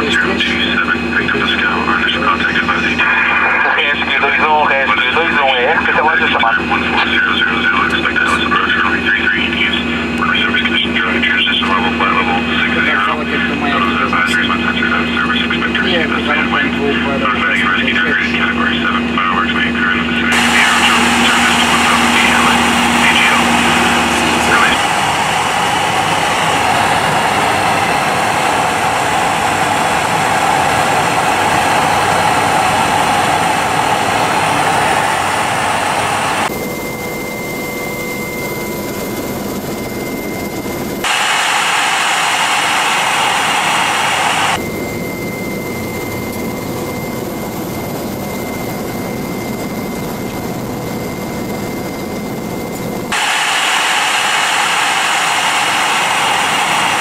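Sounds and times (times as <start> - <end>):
helicopter turbine and rotor noise: 0.0 - 57.0
steady high whine: 0.0 - 57.0.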